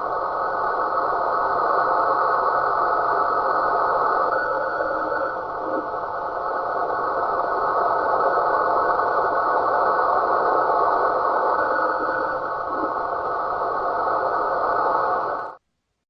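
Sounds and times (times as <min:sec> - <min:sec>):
radio receiver rushing noise: 0:00.0 - 0:15.6.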